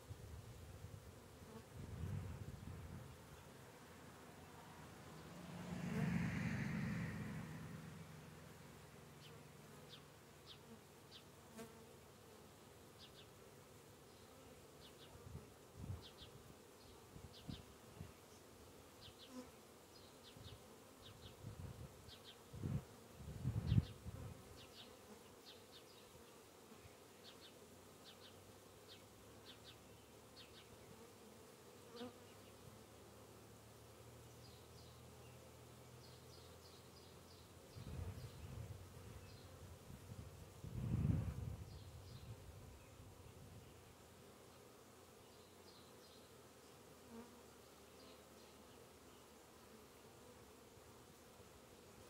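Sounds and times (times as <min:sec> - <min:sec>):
bees buzzing around hive: 0:00.0 - 0:52.0
bees flying past closely: 0:00.0 - 0:52.0.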